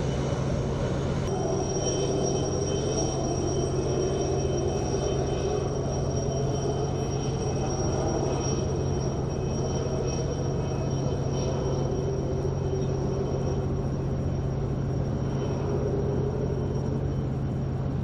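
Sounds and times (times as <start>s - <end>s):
propeller engine drone: 0.0s - 18.0s.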